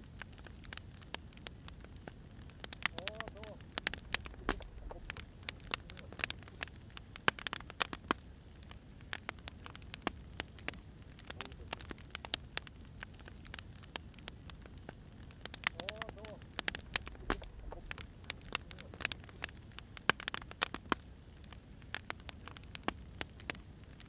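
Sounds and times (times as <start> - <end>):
firewood crackling and popping: 0.0 - 24.0
low rumble of fire: 0.0 - 24.0.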